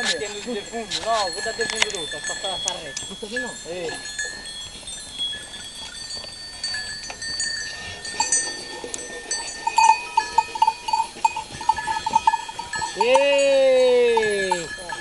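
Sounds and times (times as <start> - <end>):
bell jingling rapidly: 0.0 - 15.0
sheep bells clinking: 0.0 - 15.0.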